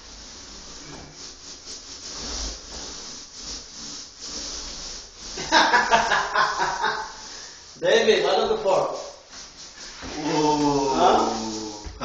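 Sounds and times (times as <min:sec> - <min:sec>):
paint roller rolling on wall: 0:00.0 - 0:12.0.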